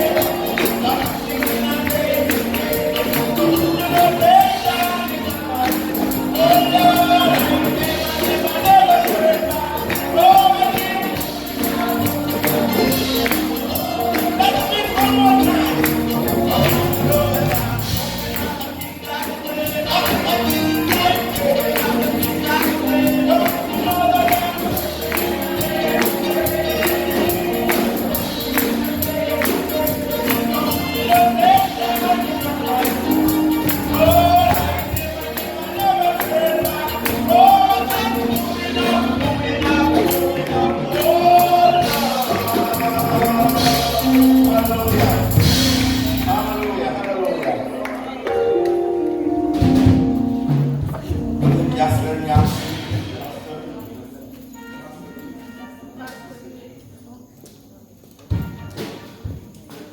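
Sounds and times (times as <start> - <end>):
accompanying instruments: 0.0 - 56.1
tambourine beat: 0.0 - 56.6, 58.2 - 59.8
choir singing gospel: 0.0 - 56.8.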